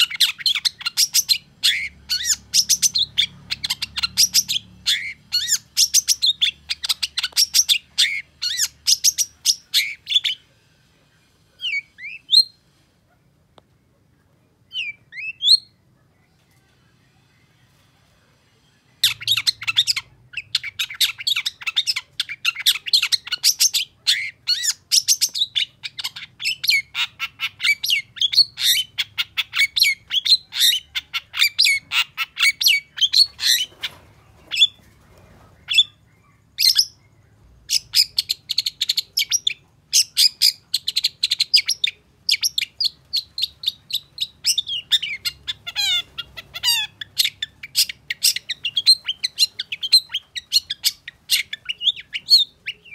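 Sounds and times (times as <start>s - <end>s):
bird chattering song: 0.0s - 10.5s, 14.7s - 15.8s, 18.8s - 52.9s.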